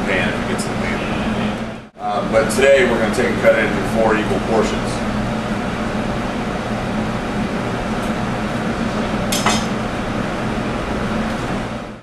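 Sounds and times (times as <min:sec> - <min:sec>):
air handling hum: 0:00.0 - 0:12.0.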